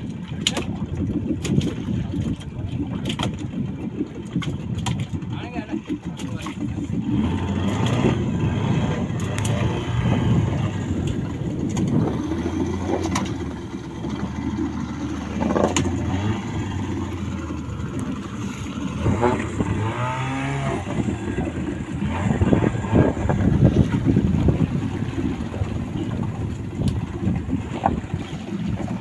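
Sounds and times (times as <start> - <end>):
outboard motor drone: 0.0 - 29.0.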